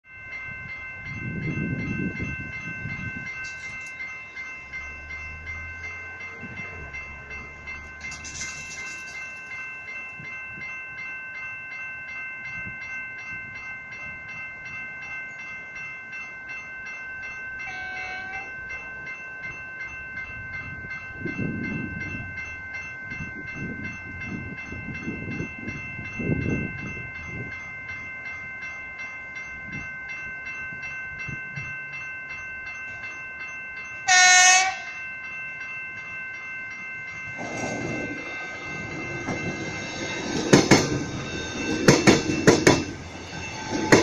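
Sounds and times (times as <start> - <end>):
level crossing bells ringing: 0.0 - 44.0.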